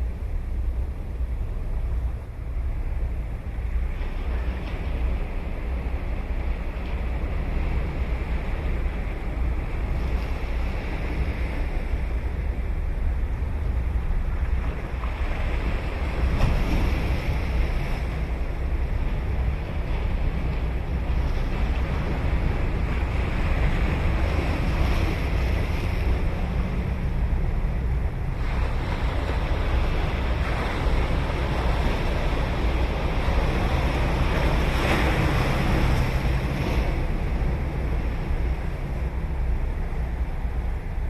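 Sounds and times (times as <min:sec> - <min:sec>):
ocean surf washing ashore: 0:00.0 - 0:41.0
wind rumbling on microphone: 0:00.0 - 0:41.0.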